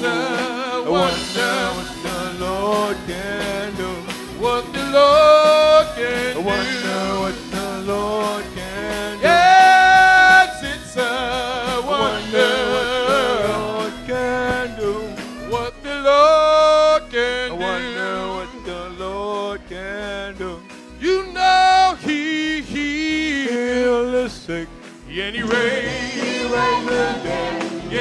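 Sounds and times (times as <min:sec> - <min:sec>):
band accompaniment: 0:00.0 - 0:28.0
choir singing gospel: 0:00.0 - 0:28.0
lead singer: 0:00.0 - 0:28.0.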